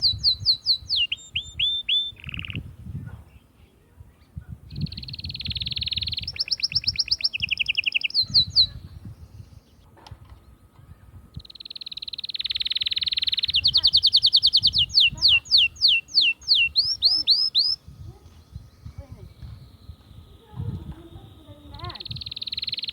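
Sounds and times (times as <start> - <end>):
canary singing trills: 0.0 - 9.9, 11.3 - 22.9.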